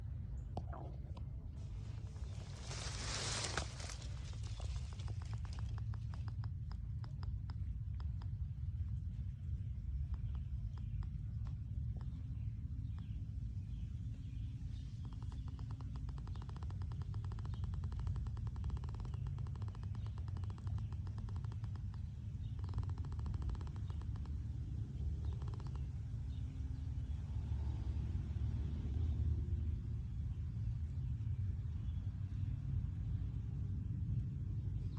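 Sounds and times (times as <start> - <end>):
steady low rumble: 0.0 - 34.9.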